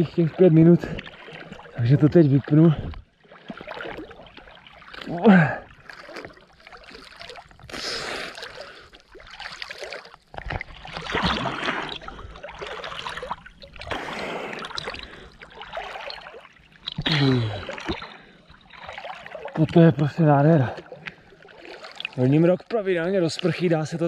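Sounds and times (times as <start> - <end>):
water splashing with swimming strokes: 0.0 - 24.0.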